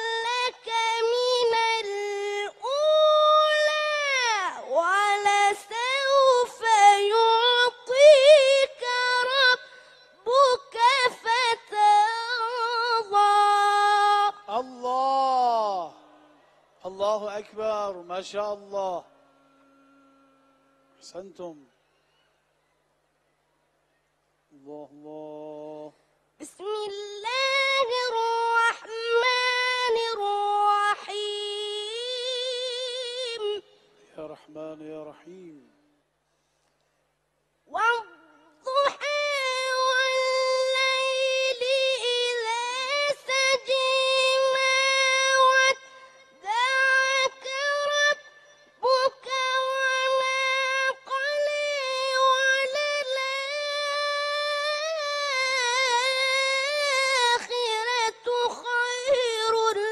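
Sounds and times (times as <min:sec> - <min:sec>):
boy chanting recitation: 0:00.0 - 0:19.1, 0:24.6 - 0:35.9, 0:37.7 - 0:59.9.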